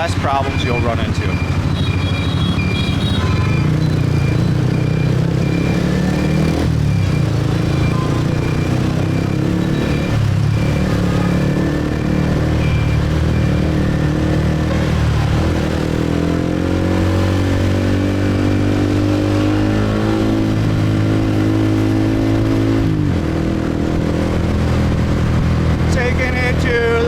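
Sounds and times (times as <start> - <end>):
motorbike engine running: 0.0 - 27.0.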